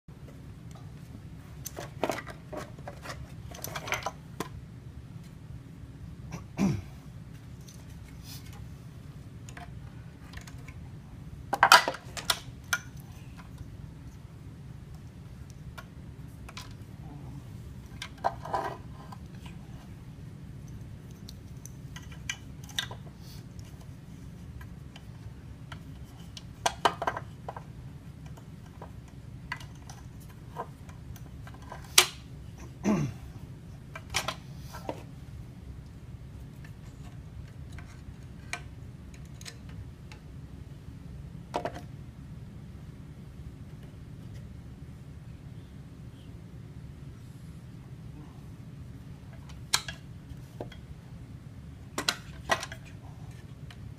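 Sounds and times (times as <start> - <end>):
steady low hum: 0.1 - 53.9.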